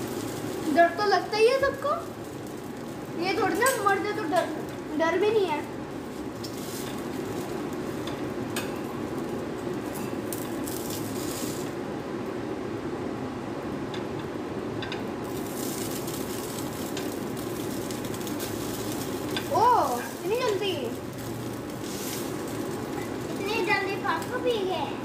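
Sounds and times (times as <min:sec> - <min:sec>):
bread sizzling in a pan: 0:00.0 - 0:25.0.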